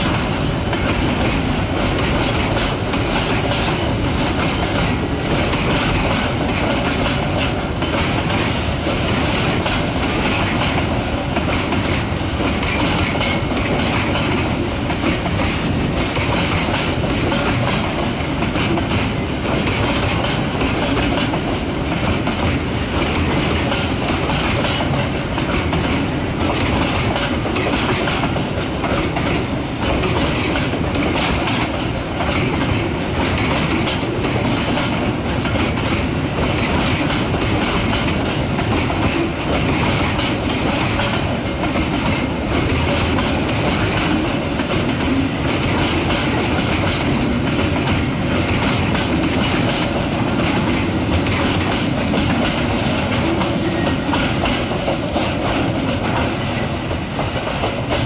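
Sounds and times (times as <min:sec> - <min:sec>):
train wheels rumbling: 0:00.0 - 0:58.0
wheels clacking over rail joints: 0:00.0 - 0:58.0.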